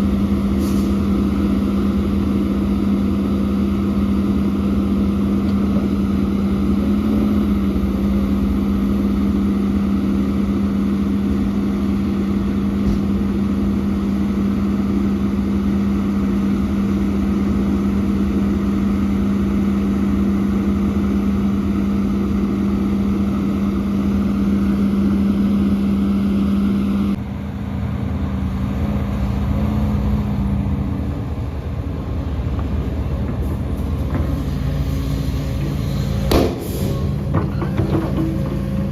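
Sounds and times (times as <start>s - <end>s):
heavy diesel machinery droning: 0.0s - 38.9s
quieter engine running: 0.0s - 38.9s.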